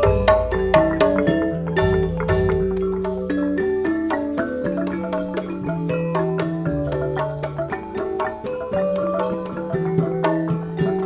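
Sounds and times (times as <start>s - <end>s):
gamelan ensemble playing: 0.0s - 11.0s.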